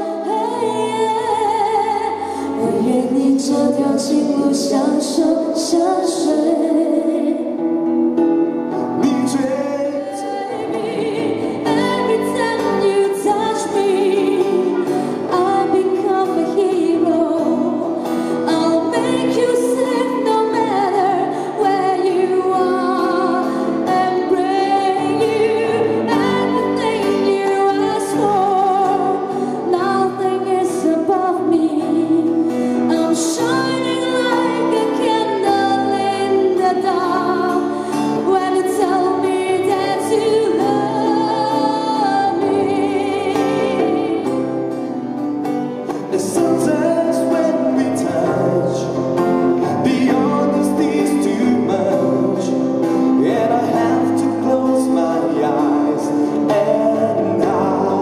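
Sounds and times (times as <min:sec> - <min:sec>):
woman singing a pop ballad: 0:00.0 - 0:07.9, 0:09.1 - 0:58.0
acoustic guitar: 0:00.0 - 0:58.0.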